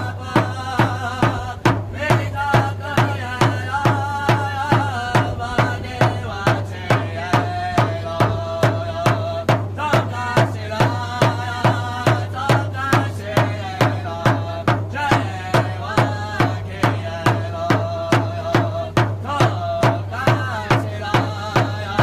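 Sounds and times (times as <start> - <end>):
drum beating steadily: 0.0 - 22.0
voices singing: 0.0 - 22.0.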